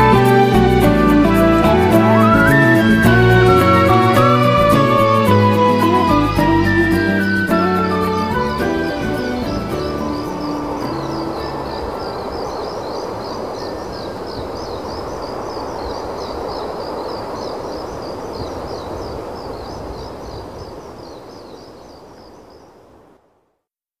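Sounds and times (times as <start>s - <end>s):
insects chirping: 0.0s - 23.1s
low rushing hiss: 0.0s - 23.2s.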